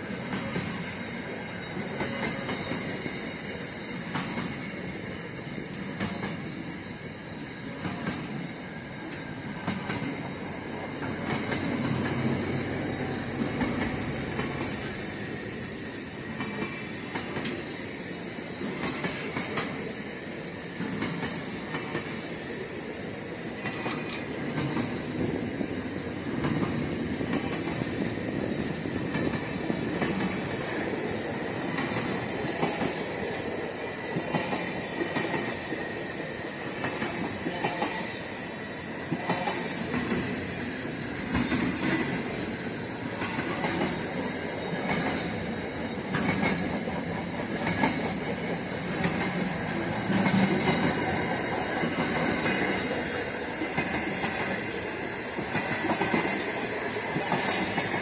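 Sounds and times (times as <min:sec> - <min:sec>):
wheels clacking on track: 0:00.0 - 0:06.8, 0:07.6 - 0:22.7, 0:23.5 - 0:38.3, 0:39.0 - 0:58.0
freight train wheels rumbling: 0:00.0 - 0:58.0.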